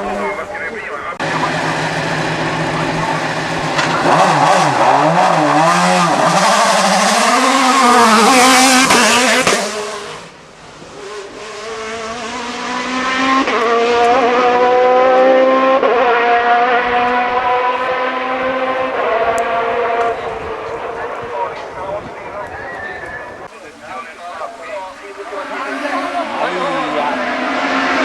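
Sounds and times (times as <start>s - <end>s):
racing car engine at full throttle: 0.0s - 28.0s
second racing car revving: 0.0s - 28.0s.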